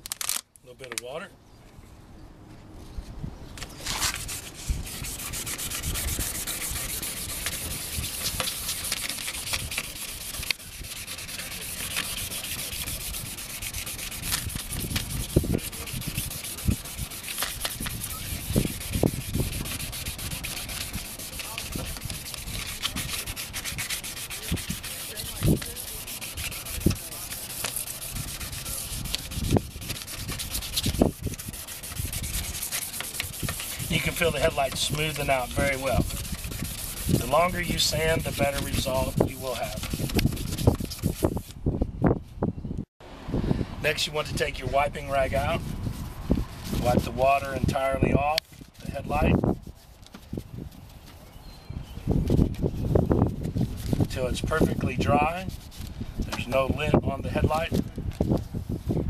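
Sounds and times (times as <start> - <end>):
wet sanding strokes: 3.8 - 41.6, 43.9 - 51.0, 52.2 - 57.8.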